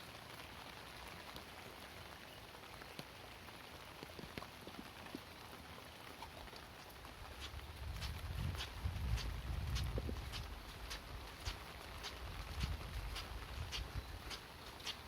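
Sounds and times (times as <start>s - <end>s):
light rain pattering: 0.0s - 15.0s
water drips: 0.0s - 15.0s.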